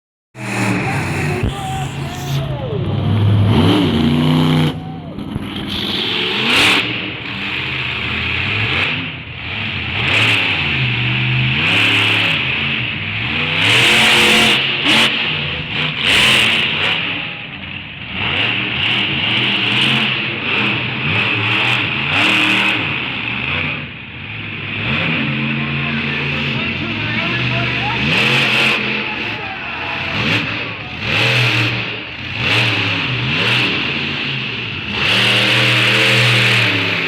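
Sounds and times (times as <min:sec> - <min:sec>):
monster truck engine revving: 0:00.4 - 0:37.0.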